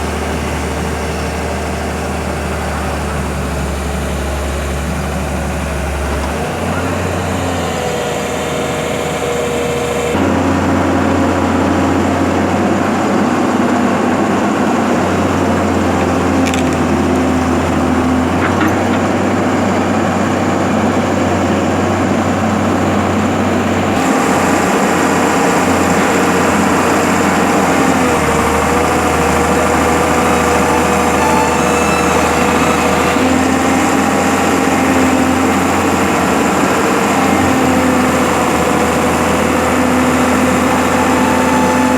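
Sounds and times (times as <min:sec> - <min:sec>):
heavy machinery engine running: 0:00.0 - 0:41.9.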